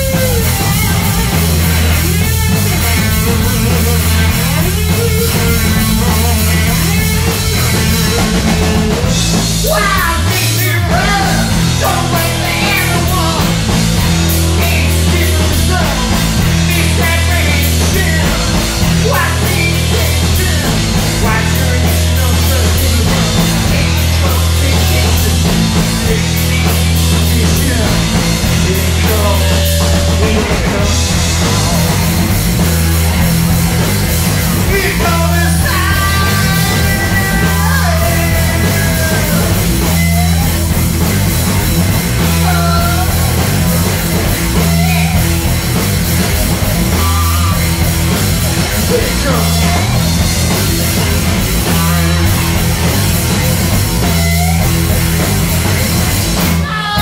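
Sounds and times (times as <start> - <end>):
person singing: 0.0 - 32.2, 34.4 - 40.7, 42.2 - 45.5, 48.6 - 55.0, 56.4 - 57.0
distorted electric guitar: 0.0 - 57.0
drum kit: 0.0 - 57.0
electric bass: 0.0 - 57.0.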